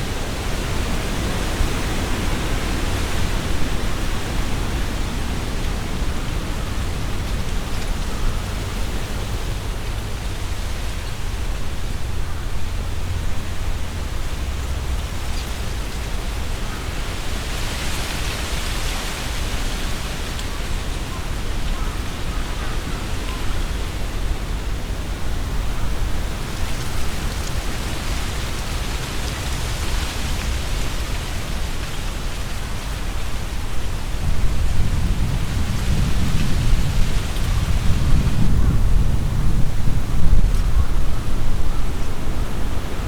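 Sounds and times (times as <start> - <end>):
leaves rustling: 0.0 - 43.0
wind gusting through trees: 0.0 - 43.0.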